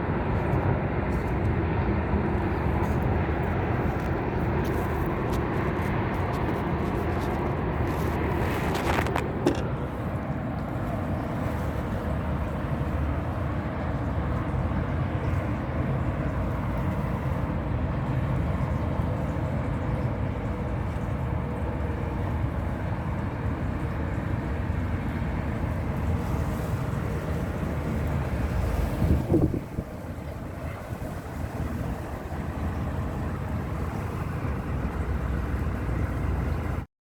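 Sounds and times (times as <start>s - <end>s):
wind blowing across microphone: 0.0s - 36.9s.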